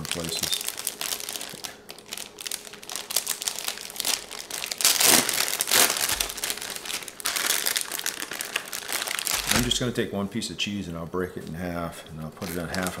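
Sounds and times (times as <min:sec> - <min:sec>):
plastic packaging crinkling: 0:00.0 - 0:10.0, 0:12.2 - 0:13.0.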